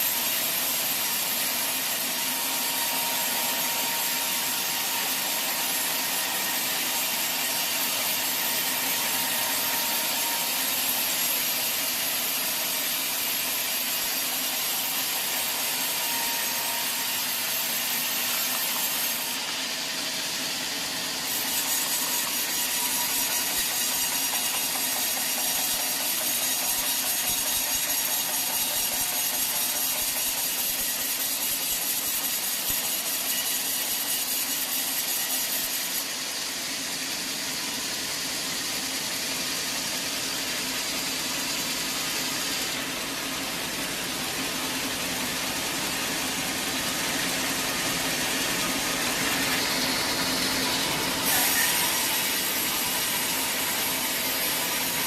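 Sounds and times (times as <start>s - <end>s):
saw cutting through wood: 0.0s - 55.0s.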